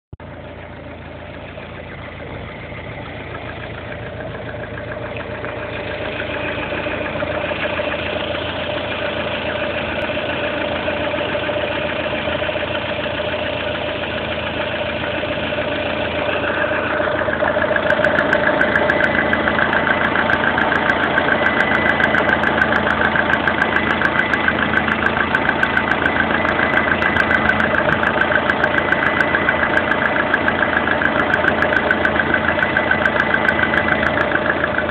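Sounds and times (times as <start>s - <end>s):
car engine idling with knock: 0.2s - 34.9s.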